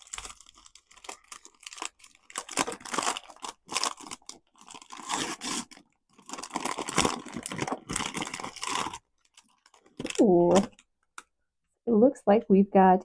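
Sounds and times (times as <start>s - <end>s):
plastic wrap crinkling and tearing: 0.0s - 10.9s.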